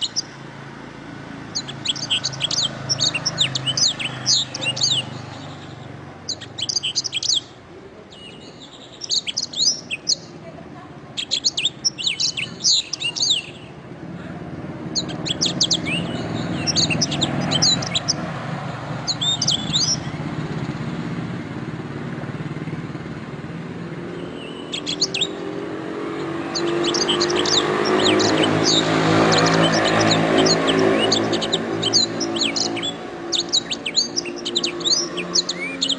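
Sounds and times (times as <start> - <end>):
canary singing: 0.0 - 13.8, 14.7 - 20.9, 22.4 - 35.9.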